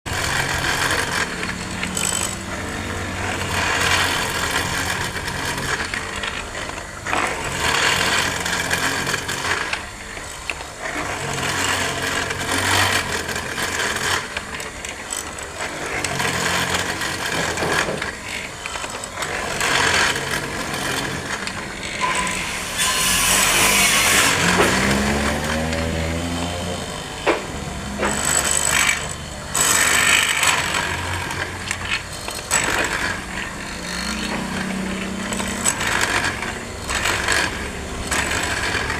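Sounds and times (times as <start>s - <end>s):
power tool cutting wood: 0.0s - 38.9s.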